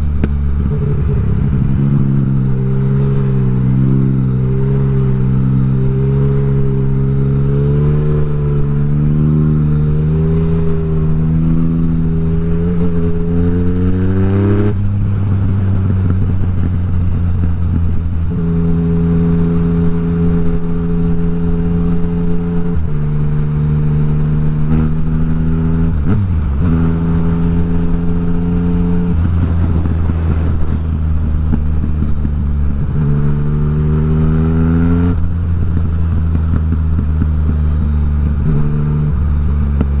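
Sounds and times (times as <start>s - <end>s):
loud motorcycle engine revving: 0.0s - 16.8s, 18.2s - 40.0s.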